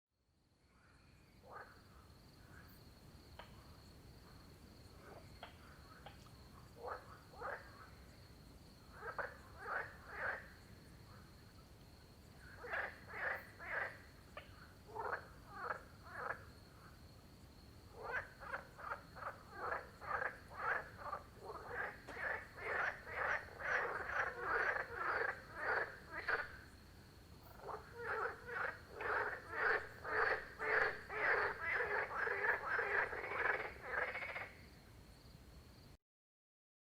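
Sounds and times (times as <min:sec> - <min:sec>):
frogs croaking: 0:00.5 - 0:35.3.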